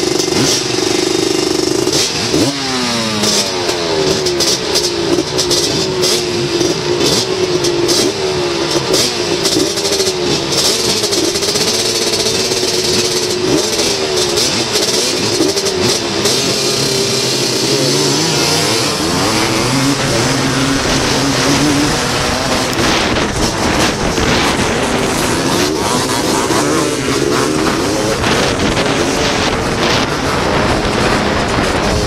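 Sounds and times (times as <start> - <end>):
racing three-wheeler engine: 0.0 - 32.0.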